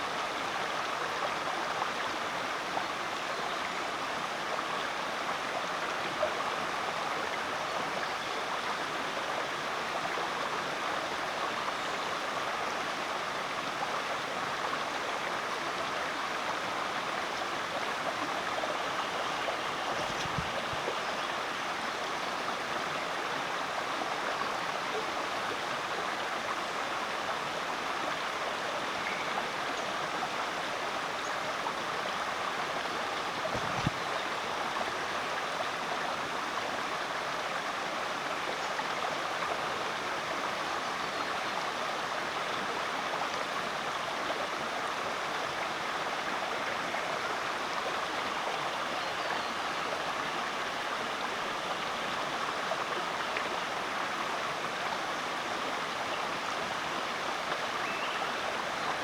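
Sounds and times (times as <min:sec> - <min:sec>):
creek water babbling: 0:00.0 - 0:59.0.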